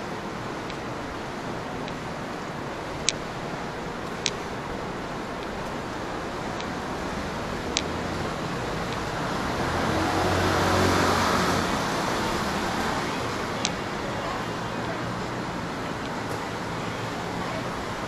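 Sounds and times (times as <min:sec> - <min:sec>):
street traffic: 0:00.0 - 0:18.0
vehicle passing close: 0:00.0 - 0:18.0.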